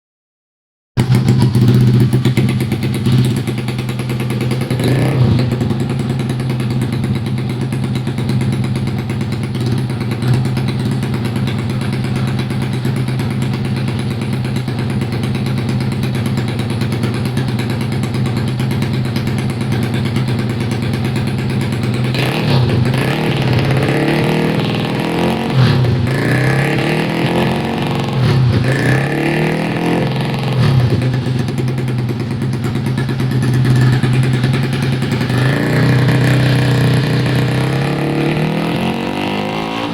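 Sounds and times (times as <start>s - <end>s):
motorcycle engine revving: 1.0s - 39.9s.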